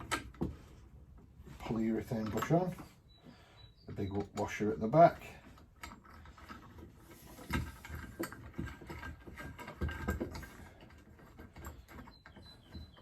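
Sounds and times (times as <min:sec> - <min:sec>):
light metal clicks and knocks: 0:00.0 - 0:03.0, 0:03.9 - 0:13.0.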